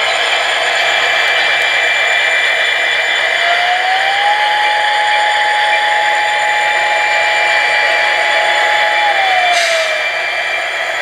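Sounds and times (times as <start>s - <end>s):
model diesel engine sound: 0.0s - 11.0s
rising whine: 0.0s - 11.0s.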